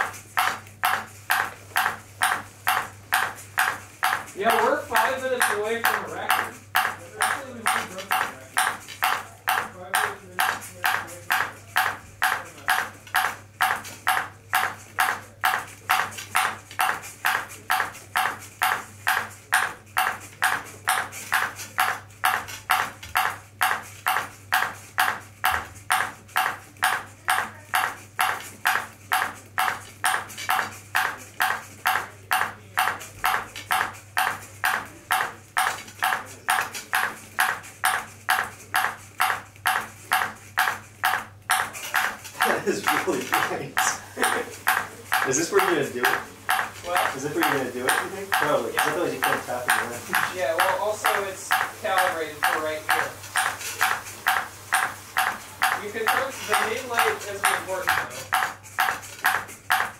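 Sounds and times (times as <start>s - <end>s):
ping pong ball bouncing on paddle: 0.0s - 59.9s.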